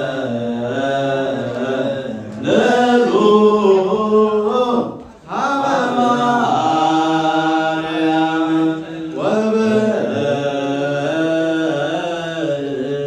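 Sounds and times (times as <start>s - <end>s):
men chanting a hymn: 0.0s - 13.0s.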